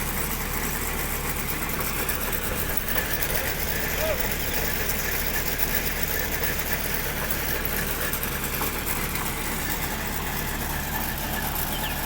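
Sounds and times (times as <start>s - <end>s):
drilling rig engine humming: 0.0s - 12.0s.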